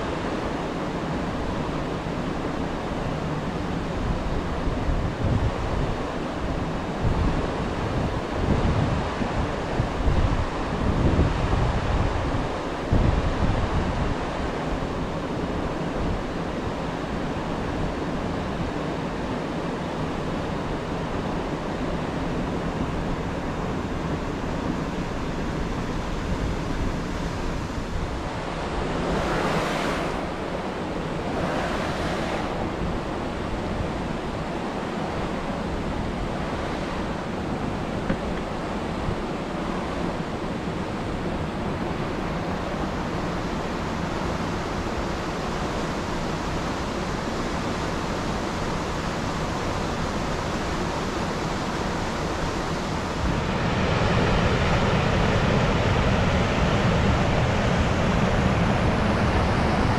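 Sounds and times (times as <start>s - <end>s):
creek water rushing: 0.0s - 59.9s
wind rumbling on microphone: 0.0s - 59.9s.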